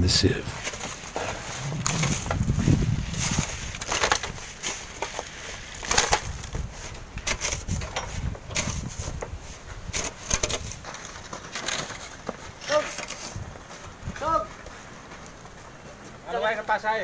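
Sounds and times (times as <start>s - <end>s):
boots on gravelly sand: 0.5s - 17.0s
wheelbarrows crunching over gravel: 0.5s - 17.0s.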